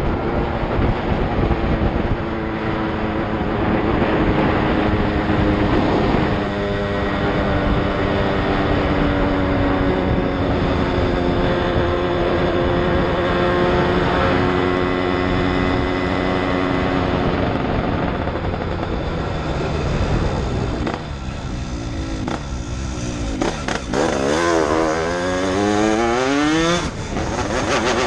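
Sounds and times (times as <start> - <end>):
wind noise: 0.0 - 28.0
two-stroke motorcycle engine: 3.1 - 28.0.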